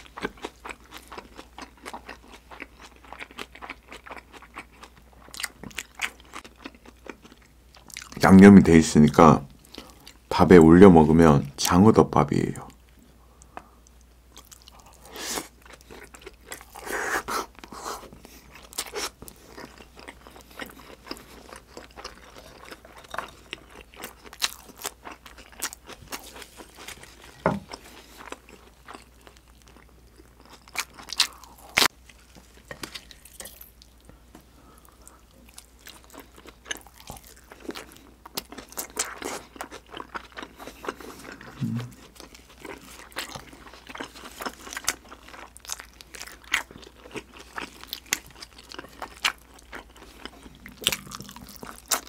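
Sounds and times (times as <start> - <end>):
wet chewing sounds: 0.0 - 8.2, 12.9 - 52.0.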